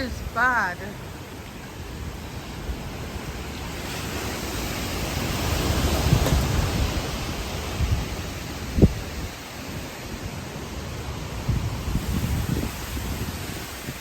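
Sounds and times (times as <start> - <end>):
high winds gusting: 0.0 - 14.0
rain: 0.0 - 14.0
wind buffeting microphone: 0.0 - 14.0.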